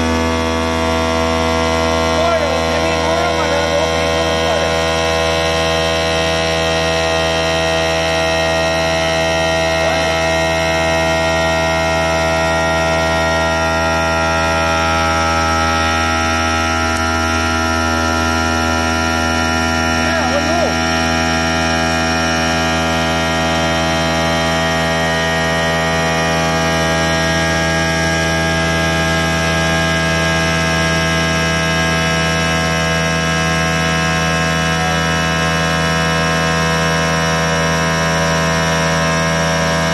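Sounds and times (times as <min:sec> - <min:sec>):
cnc spindle whine and hum: 0:00.0 - 0:39.9.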